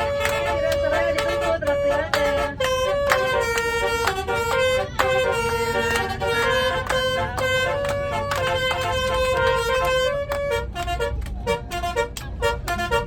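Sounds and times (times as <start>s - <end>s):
musical air horn playing tune: 0.0s - 13.0s.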